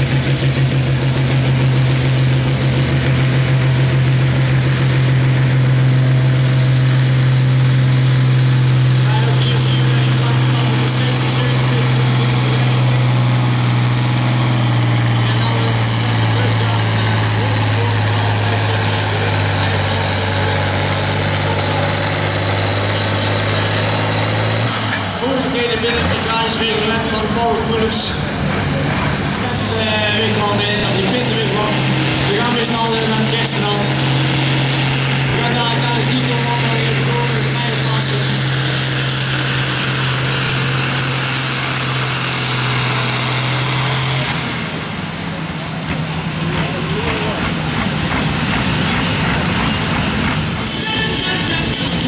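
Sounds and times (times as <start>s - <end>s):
diesel engine under heavy load: 0.0s - 52.0s.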